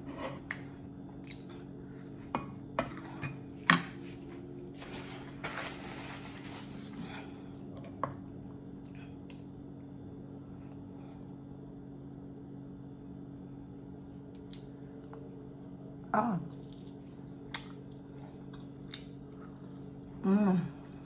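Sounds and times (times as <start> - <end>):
soft eating noise: 0.0 - 11.5, 13.1 - 21.0.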